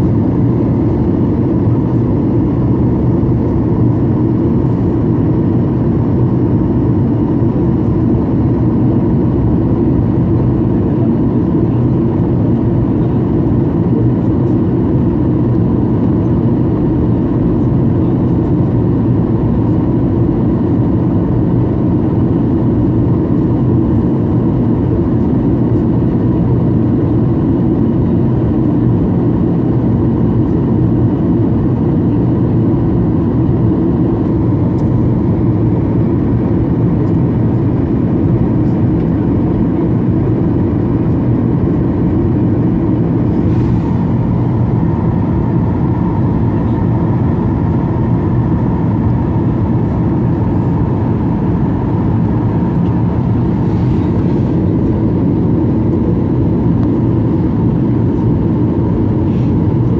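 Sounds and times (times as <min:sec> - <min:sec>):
airplane cabin engine rumble: 0:00.0 - 0:59.9
thin steady whine: 0:00.0 - 0:59.9.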